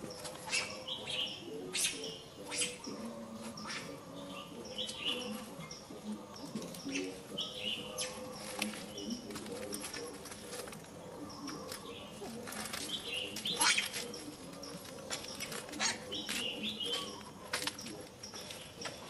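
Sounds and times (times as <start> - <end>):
high-pitched chirping calls: 0.0 - 19.0
faint clicks and rustles: 2.6 - 19.0.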